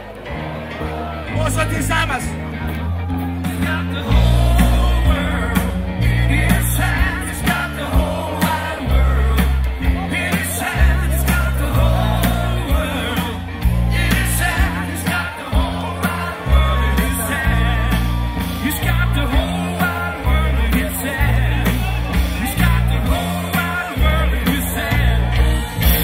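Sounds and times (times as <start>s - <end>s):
heavy bass line: 0.0s - 26.0s
live band music over speakers: 0.0s - 26.0s
person singing: 3.5s - 26.0s.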